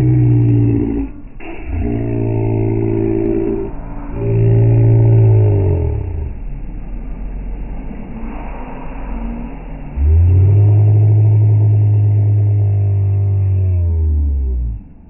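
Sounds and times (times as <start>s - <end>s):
engine revving hard: 0.0s - 14.9s.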